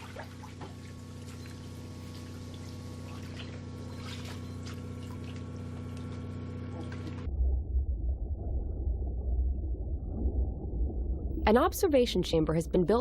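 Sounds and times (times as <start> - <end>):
water trickling and bubbling: 0.0 - 11.9
steady low hum: 0.0 - 13.0.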